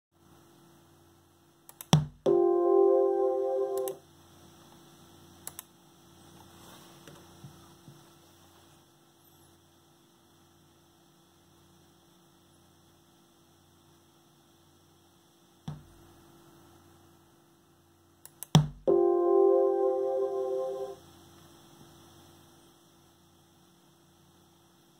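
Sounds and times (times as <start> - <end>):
faint steady hum: 0.2 - 24.9
white noise playback: 0.2 - 24.9.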